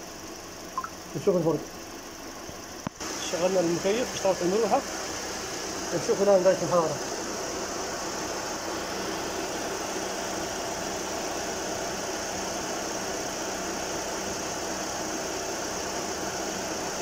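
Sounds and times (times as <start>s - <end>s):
car engine idling: 0.0s - 17.0s
radiator cooling fan whirring: 0.0s - 17.0s.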